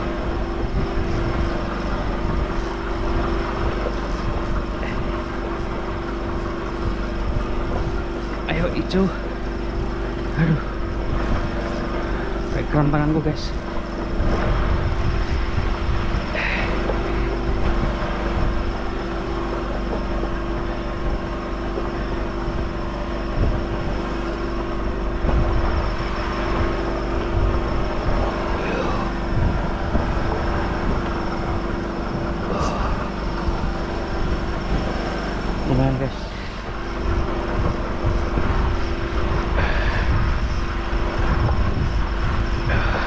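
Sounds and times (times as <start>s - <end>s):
engine running steadily: 0.0s - 43.0s.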